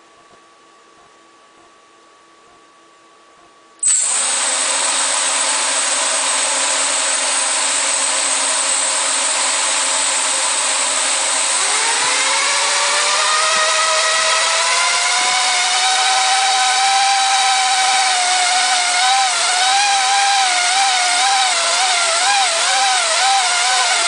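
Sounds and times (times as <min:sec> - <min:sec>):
multicopter motors whirring: 0:03.8 - 0:24.0.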